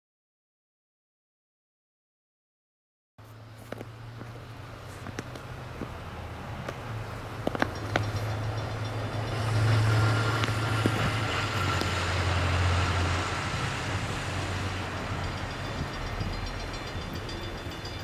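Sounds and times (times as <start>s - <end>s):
diesel locomotive engine drone: 3.2s - 18.0s.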